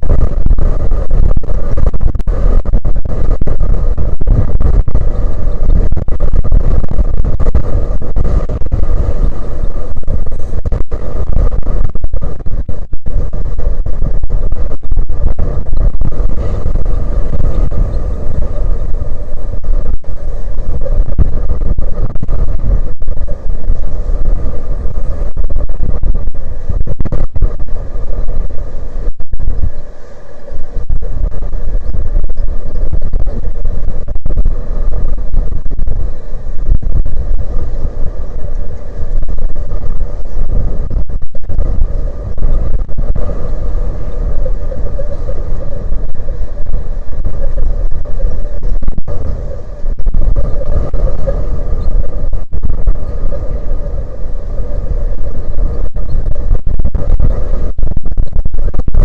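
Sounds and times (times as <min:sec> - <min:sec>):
faint steady hum: 0:00.0 - 0:59.0
strong wind buffeting microphone: 0:00.0 - 0:59.0.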